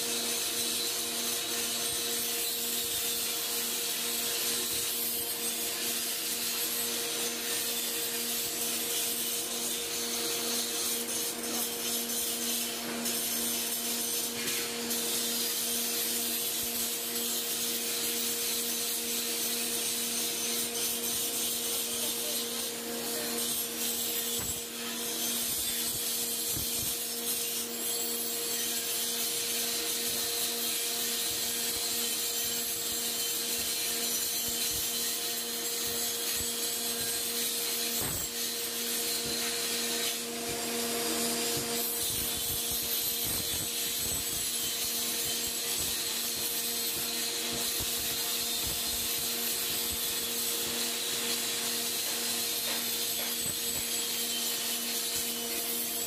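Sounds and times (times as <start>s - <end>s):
power grinder whining: 0.4s - 56.0s.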